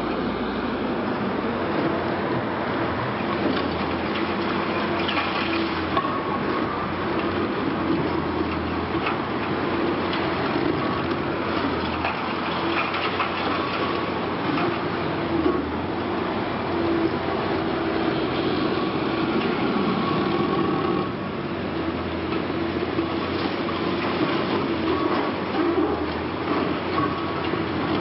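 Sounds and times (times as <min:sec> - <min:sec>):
excavator engine and hydraulics: 0:00.0 - 0:28.0.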